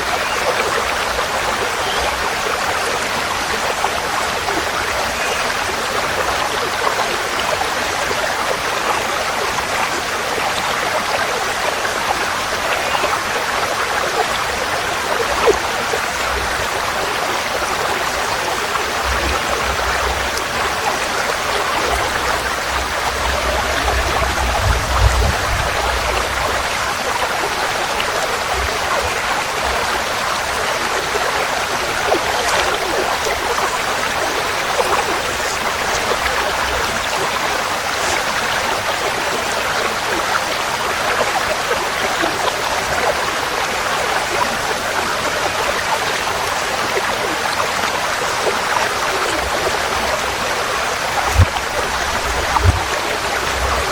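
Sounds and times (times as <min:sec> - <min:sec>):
stream flowing: 0:00.0 - 0:53.9.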